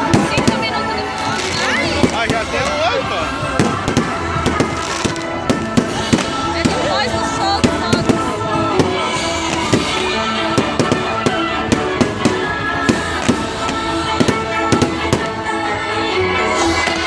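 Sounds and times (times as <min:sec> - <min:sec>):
firecrackers popping: 0:00.0 - 0:15.5
music playing: 0:00.0 - 0:17.0.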